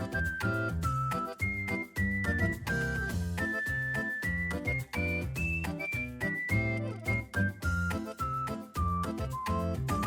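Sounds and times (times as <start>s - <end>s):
bright melody: 0.0s - 10.0s
steady bass beat: 0.0s - 10.0s.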